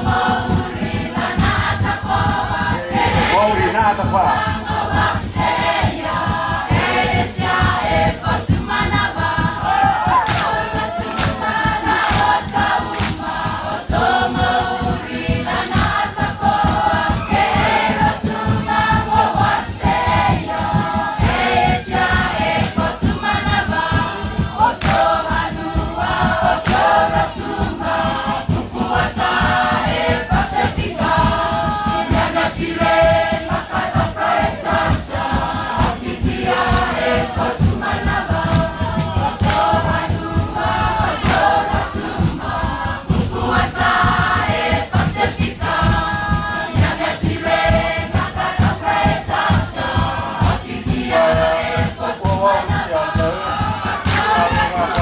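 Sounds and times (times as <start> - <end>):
group singing in chorus: 0.0 - 55.0
percussive beats: 0.0 - 55.0.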